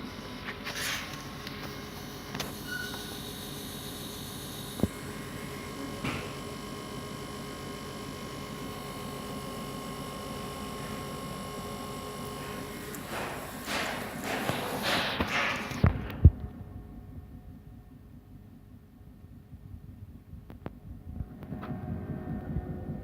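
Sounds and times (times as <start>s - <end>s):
laser cutter humming: 0.0s - 19.0s.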